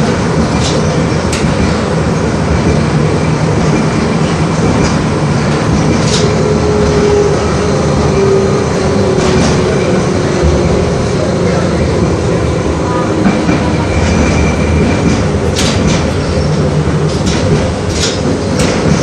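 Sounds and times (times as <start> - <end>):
tram wheels rumbling on rails: 0.0 - 19.0.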